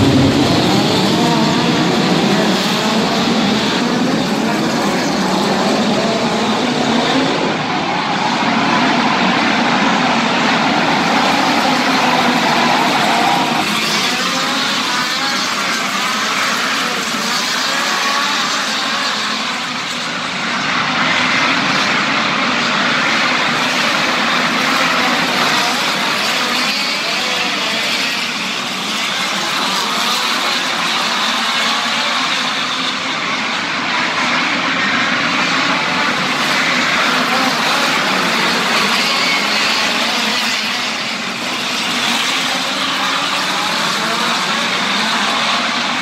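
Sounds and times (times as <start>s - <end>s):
race car engines droning: 0.0s - 46.0s.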